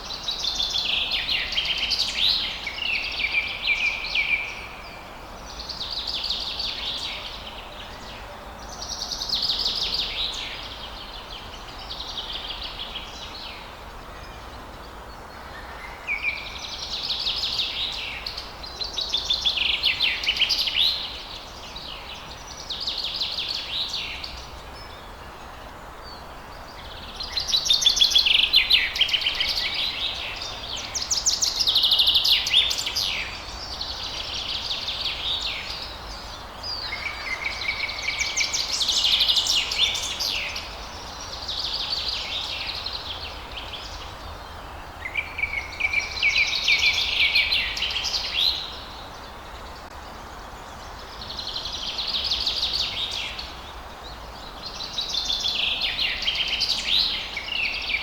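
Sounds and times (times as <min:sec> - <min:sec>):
faint outdoor hiss: 0:00.0 - 0:58.0
songbird singing: 0:00.0 - 0:58.0.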